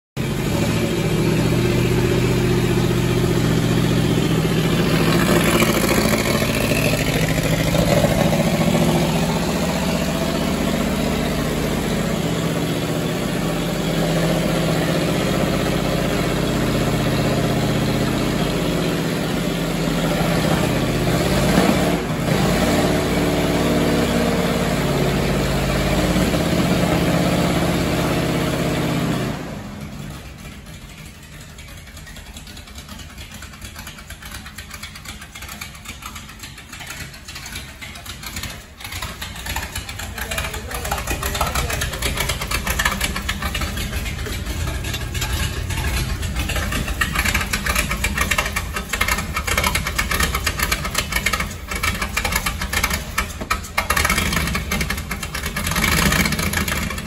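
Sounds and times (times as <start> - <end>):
car engine idling: 0.2 - 57.0.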